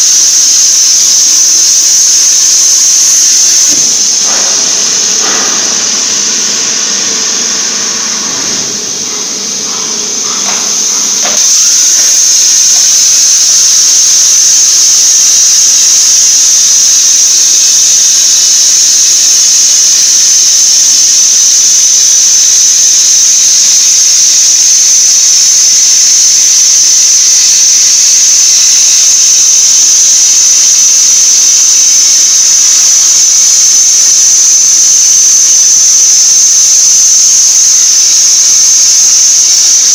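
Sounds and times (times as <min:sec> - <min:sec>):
plasma torch hissing screech: 0:00.0 - 0:39.9.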